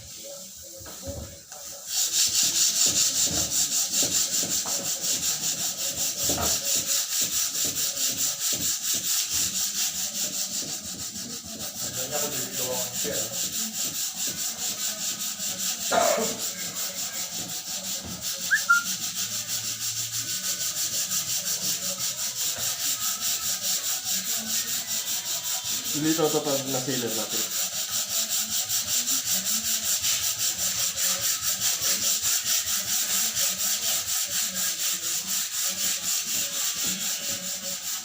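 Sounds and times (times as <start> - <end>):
sandpaper rubbing wood: 1.6 - 38.0.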